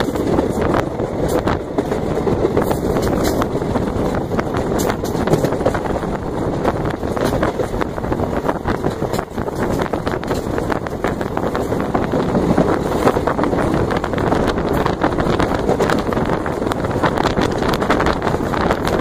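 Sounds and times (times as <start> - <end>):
train rumbling on track: 0.0 - 19.0
train wheels clicking and clattering: 0.0 - 19.0
wind rushing over microphone: 0.0 - 19.0.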